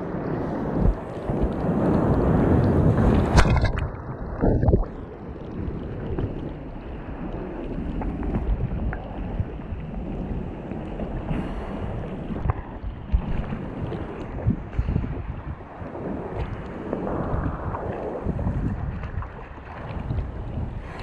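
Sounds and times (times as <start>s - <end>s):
rough sea sloshing: 0.0s - 21.0s.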